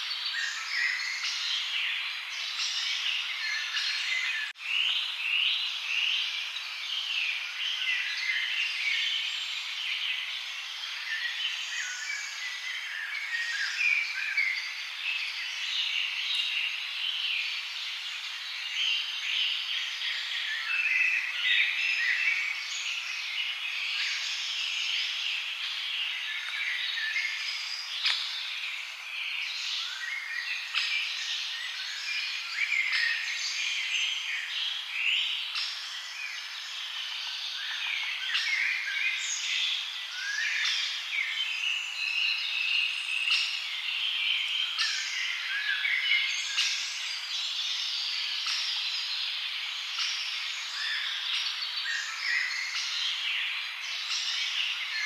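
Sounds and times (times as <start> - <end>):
chorus of birds singing: 0.0 - 55.0.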